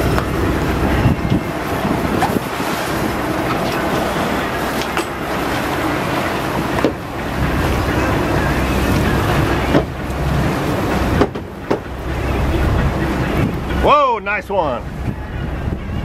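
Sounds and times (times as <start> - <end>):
wind on microphone: 0.0 - 13.9, 14.6 - 16.0
boat engine running: 0.0 - 16.0
water rushing past hull: 0.0 - 16.0.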